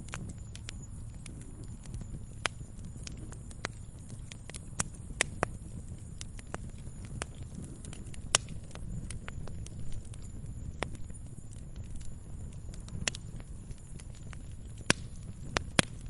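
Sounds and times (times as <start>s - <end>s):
fire crackling: 0.0s - 16.0s
low rumble of flame: 0.0s - 16.0s
sharp pops and snaps: 0.0s - 16.0s.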